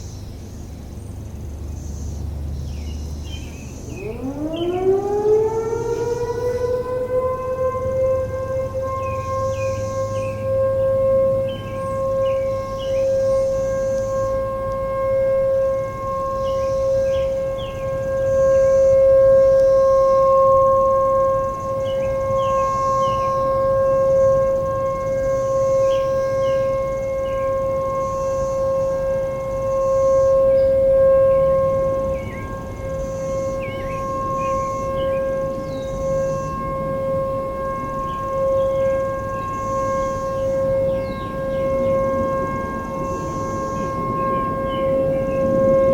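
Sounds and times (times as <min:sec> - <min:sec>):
distant warning siren steady tone: 0:00.0 - 0:45.9.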